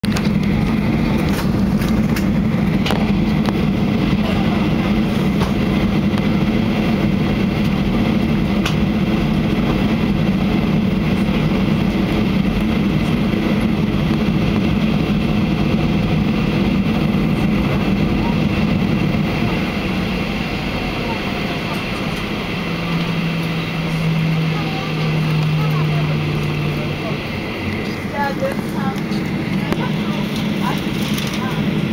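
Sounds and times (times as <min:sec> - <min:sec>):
jet engines rumbling: 0:00.0 - 0:31.9.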